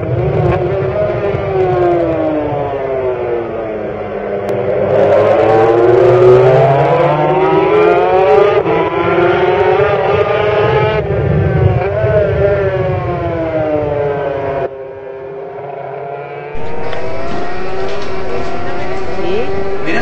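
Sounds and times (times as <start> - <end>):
racing motorcycle engine high revs: 0.0 - 14.6, 15.6 - 20.0.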